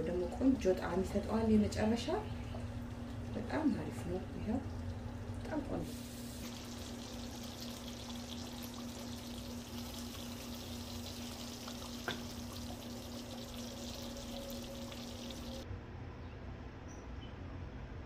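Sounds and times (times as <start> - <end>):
stew bubbling and crackling: 0.0 - 15.6
steady low hum: 0.0 - 16.8.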